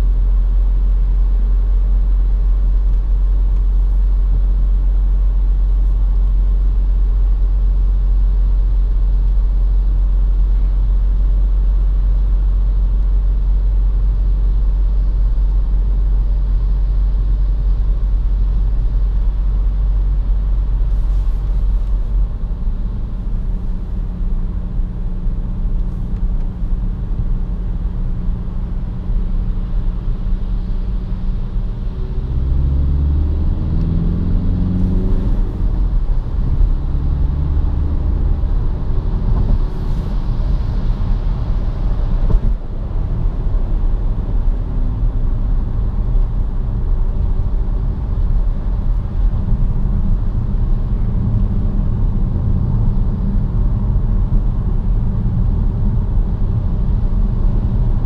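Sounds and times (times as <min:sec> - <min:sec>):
car cabin road and engine rumble: 0:00.0 - 0:58.0.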